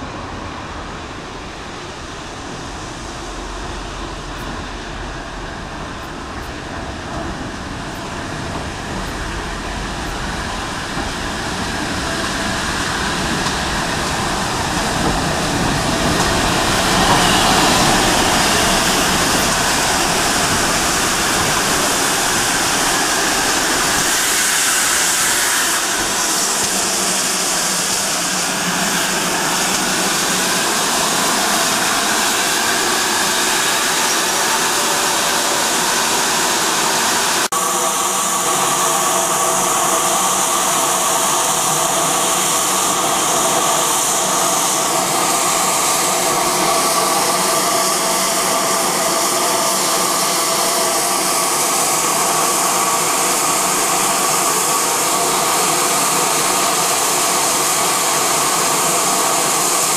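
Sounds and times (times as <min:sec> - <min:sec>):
steam hissing: 0:00.0 - 0:59.9.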